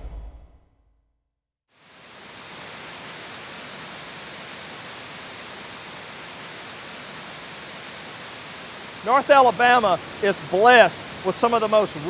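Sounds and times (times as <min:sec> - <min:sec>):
waterfall rushing: 0:01.8 - 0:12.0.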